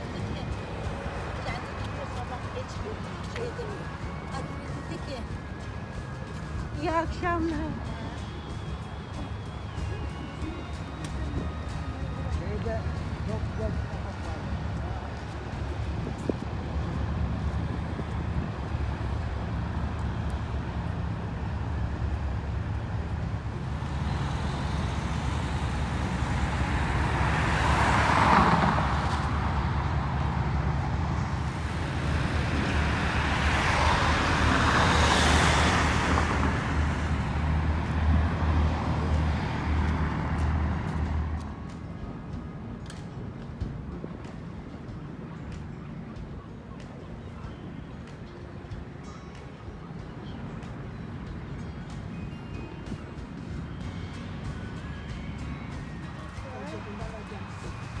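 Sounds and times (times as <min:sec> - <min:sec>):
low engine hum: 0:00.0 - 0:48.6
cars passing by: 0:00.0 - 0:58.0.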